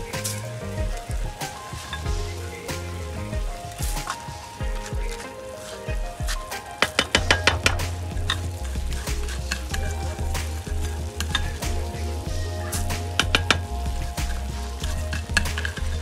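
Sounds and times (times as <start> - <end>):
broth bubbling in pot: 0.0 - 16.0.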